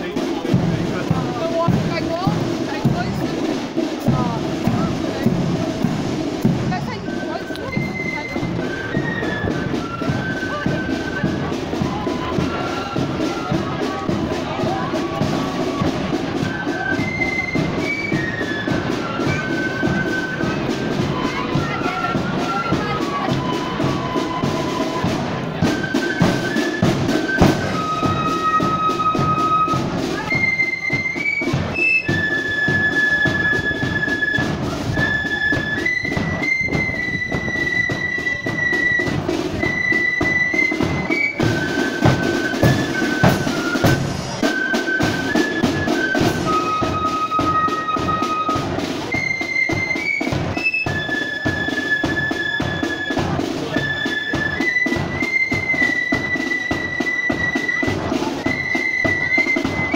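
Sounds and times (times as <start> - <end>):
flute band playing: 0.0 - 59.9
side drums beating: 0.0 - 59.9.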